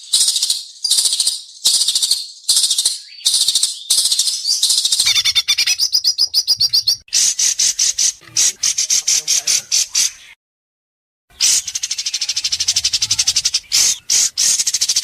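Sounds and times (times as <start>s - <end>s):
bird singing chattering song: 0.0s - 10.4s, 11.3s - 15.0s.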